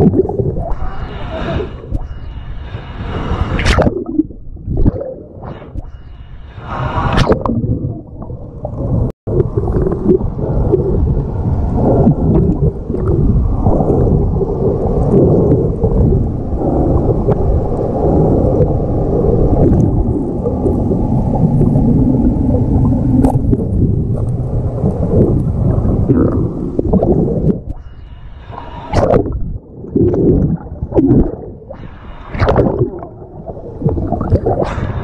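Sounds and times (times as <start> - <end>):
underwater rumble and gurgling water: 0.0 - 35.0.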